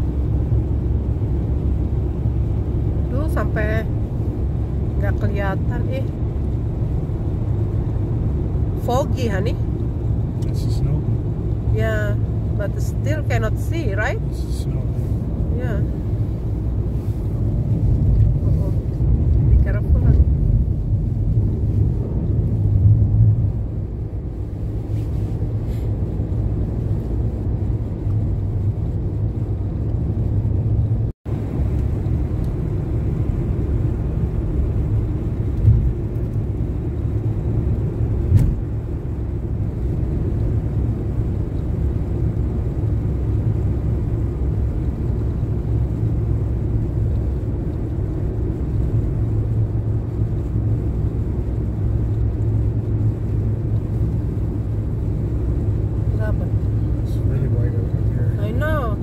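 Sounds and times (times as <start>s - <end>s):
car road and engine noise: 0.0s - 59.0s.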